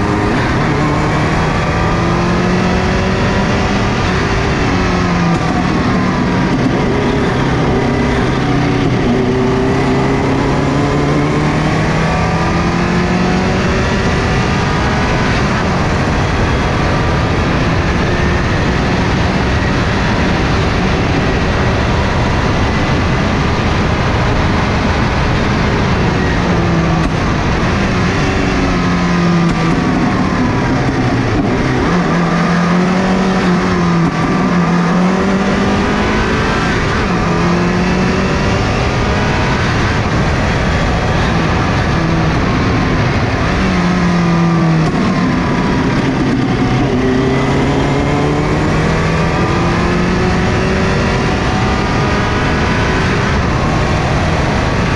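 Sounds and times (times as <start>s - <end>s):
rally car engine revving: 0.0s - 54.9s
road and wind noise: 0.0s - 54.9s.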